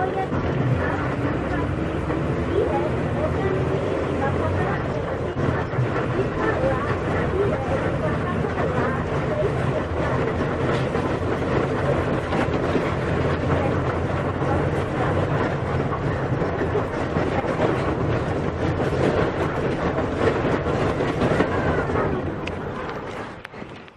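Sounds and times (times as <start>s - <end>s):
bus body rattling: 0.0s - 23.9s
bus engine drone: 0.0s - 23.9s.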